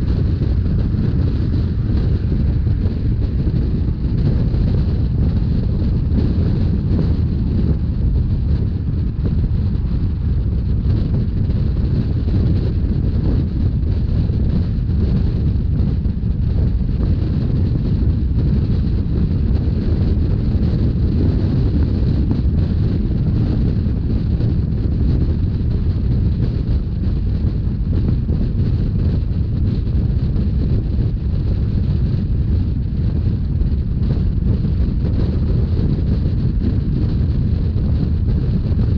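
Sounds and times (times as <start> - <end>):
train rumbling along track: 0.0 - 38.9
wind buffeting microphone: 0.0 - 38.9.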